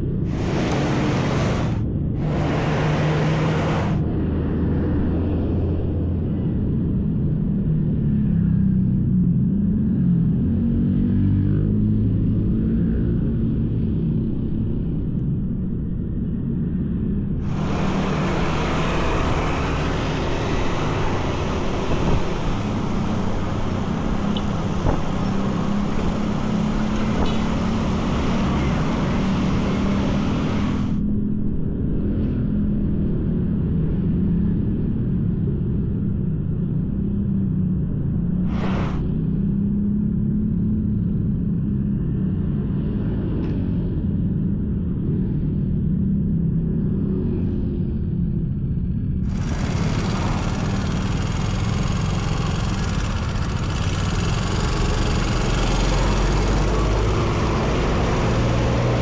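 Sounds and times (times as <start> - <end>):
low rumble of road traffic: 0.0 - 59.0.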